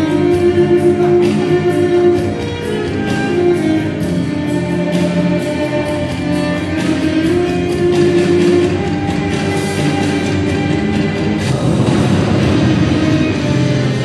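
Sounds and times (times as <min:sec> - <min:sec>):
instrumental music over loudspeakers: 0:00.0 - 0:14.0.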